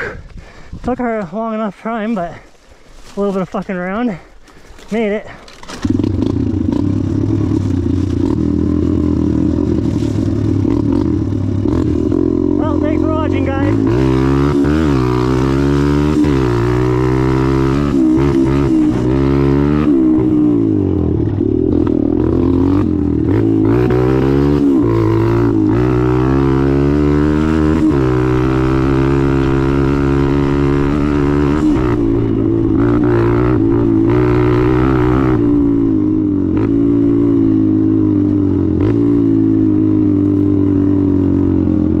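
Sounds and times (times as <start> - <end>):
dirt bike engine revving: 5.0 - 42.0.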